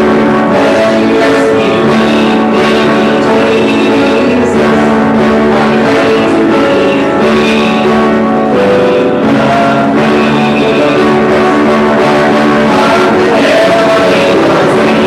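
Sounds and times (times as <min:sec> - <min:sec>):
guitar: 0:00.0 - 0:15.0
man singing: 0:00.0 - 0:15.0.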